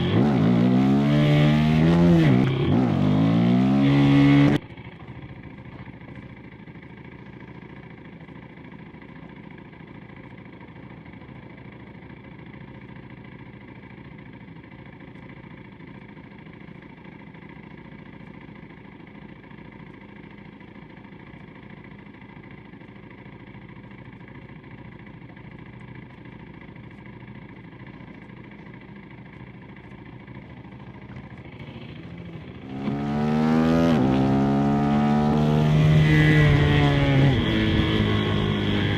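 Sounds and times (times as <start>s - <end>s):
motorcycle engine revving: 0.0s - 8.8s, 14.0s - 38.9s
engine idling: 0.0s - 38.9s.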